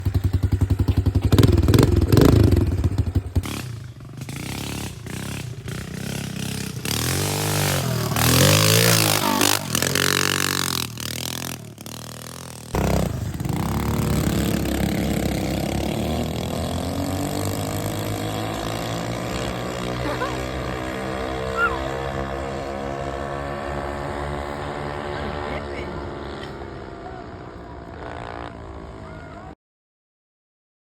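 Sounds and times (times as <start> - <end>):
pit bike engine revving: 0.0 - 29.5.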